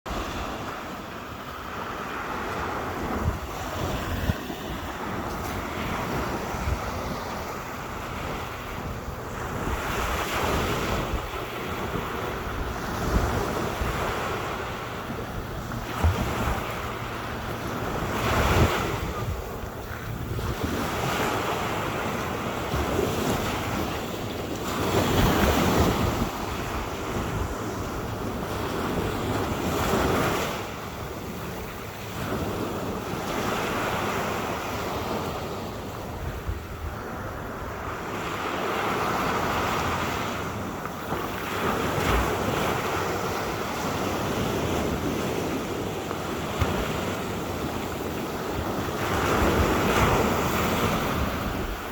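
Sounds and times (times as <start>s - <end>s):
wind buffeting microphone: 0.1s - 51.9s.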